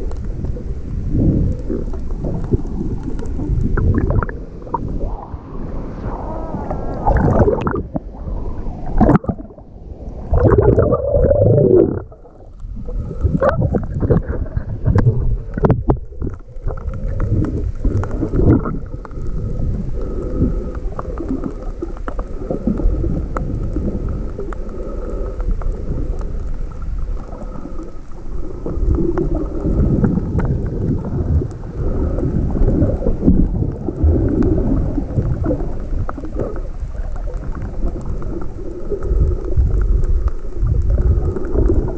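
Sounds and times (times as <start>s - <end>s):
sea surf churning: 0.6s - 41.9s.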